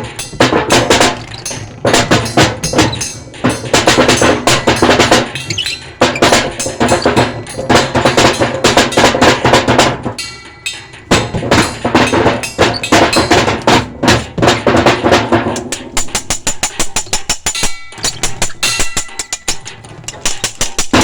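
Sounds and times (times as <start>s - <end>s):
drums played fast and hard: 0.0s - 21.0s.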